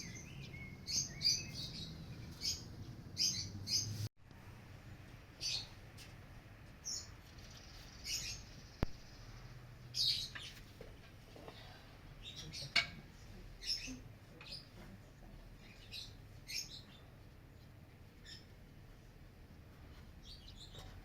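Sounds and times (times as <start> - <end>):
small birds chirping: 0.0 - 4.1, 4.9 - 21.0.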